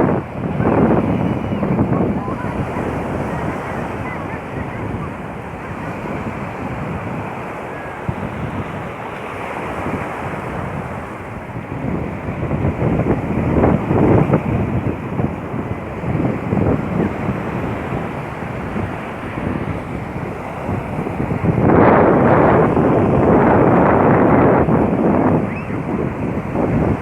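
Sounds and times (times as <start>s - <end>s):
sea waves on shore: 0.0s - 27.0s
wind buffeting microphone: 0.0s - 27.0s.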